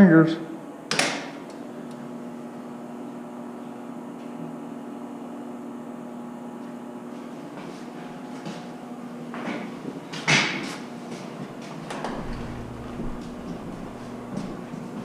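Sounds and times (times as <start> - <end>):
electrical hum with tones: 0.0 - 10.2, 10.8 - 15.0.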